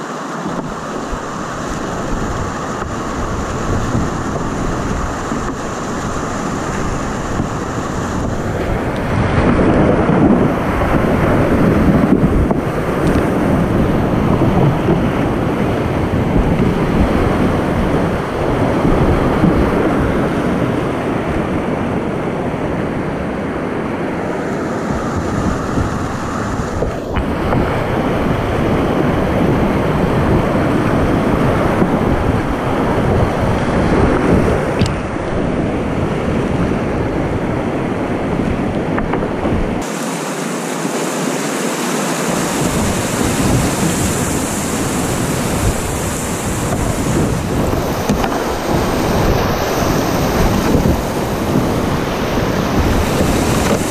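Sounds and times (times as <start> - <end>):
wind buffeting microphone: 0.0 - 40.0, 42.2 - 53.9
whitewater rapids rushing: 0.0 - 53.9.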